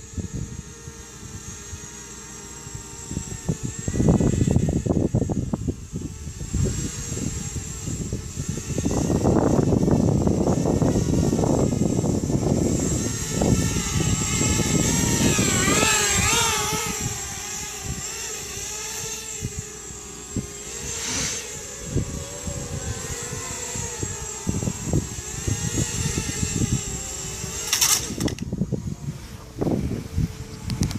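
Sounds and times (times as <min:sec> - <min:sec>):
quadcopter motors whining: 0:00.0 - 0:30.9.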